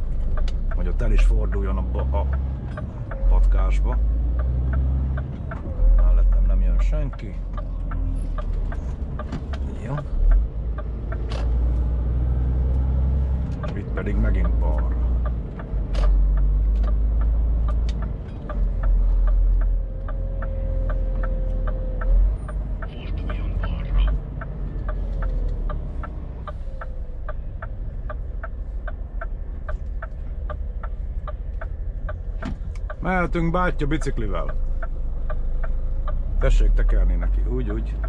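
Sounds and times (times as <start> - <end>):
low engine rumble: 0.0 - 38.0
turn signal ticking: 0.0 - 38.0.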